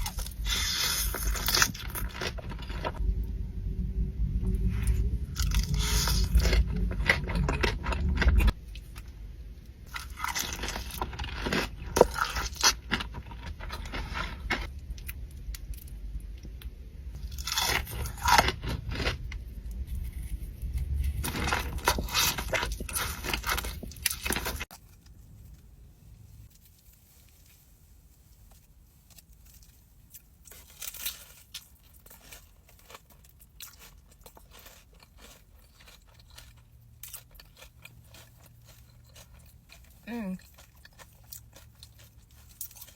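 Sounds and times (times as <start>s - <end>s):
person chewing crunchy food: 0.0s - 3.0s, 4.6s - 9.2s, 9.8s - 25.4s, 28.9s - 42.9s.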